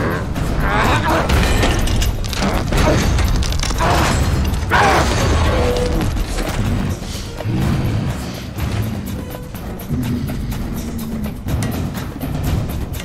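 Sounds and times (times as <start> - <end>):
orchestral score: 0.0 - 13.0.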